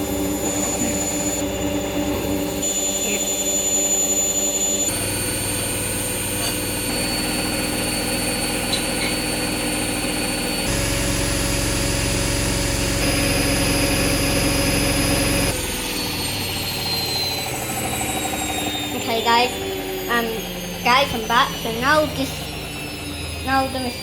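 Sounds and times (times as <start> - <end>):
washer dryer spinning: 0.0 - 24.0.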